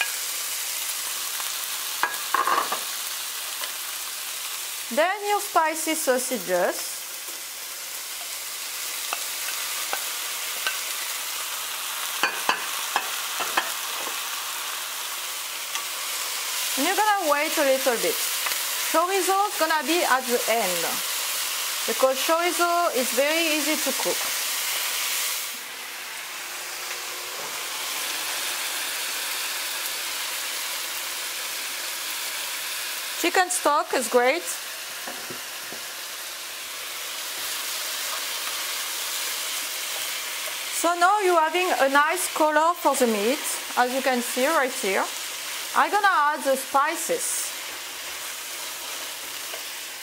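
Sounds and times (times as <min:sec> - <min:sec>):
food sizzling in a frying pan: 0:00.0 - 0:50.0.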